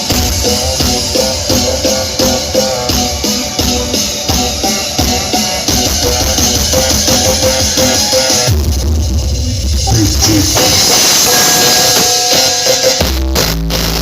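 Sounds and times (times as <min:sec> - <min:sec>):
loud music with heavy drum beat: 0:00.0 - 0:14.0.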